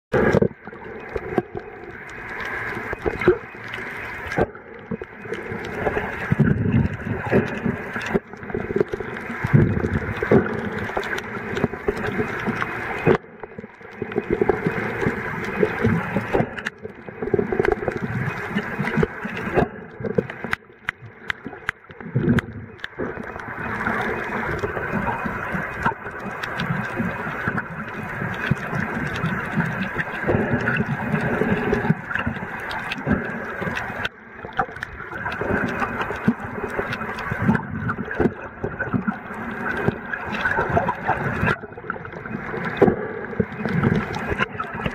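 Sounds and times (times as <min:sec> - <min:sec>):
clicks and crackles: 0:00.1 - 0:44.9
water rushing underwater: 0:00.1 - 0:44.9.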